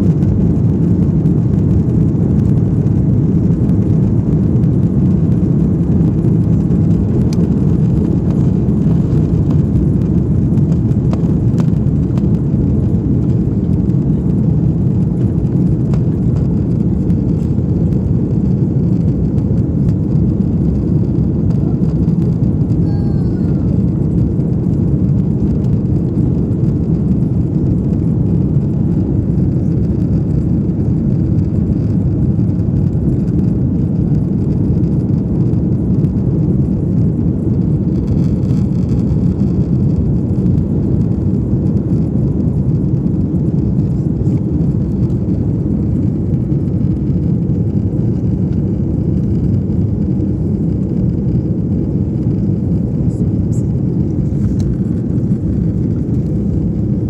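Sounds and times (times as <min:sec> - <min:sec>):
jet engines deep rumble: 0:00.0 - 0:57.0.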